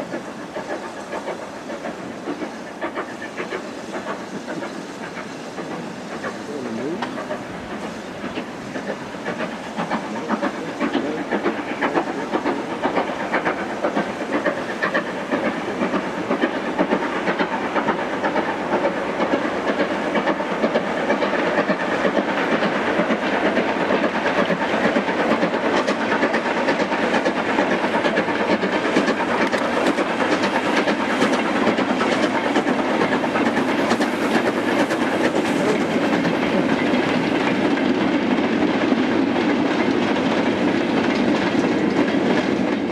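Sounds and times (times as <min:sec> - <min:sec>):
steam locomotive exhaust beats: 0:00.0 - 0:42.9.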